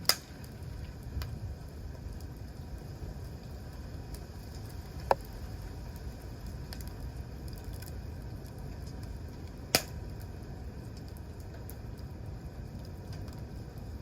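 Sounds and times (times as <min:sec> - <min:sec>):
campfire burning and crackling: 0:00.0 - 0:14.0.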